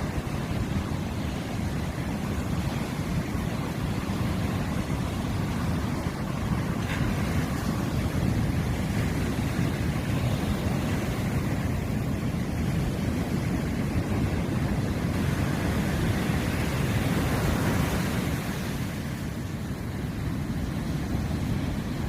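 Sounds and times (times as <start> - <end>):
sea waves rushing: 0.0 - 22.0
wind buffeting microphone: 0.0 - 22.0.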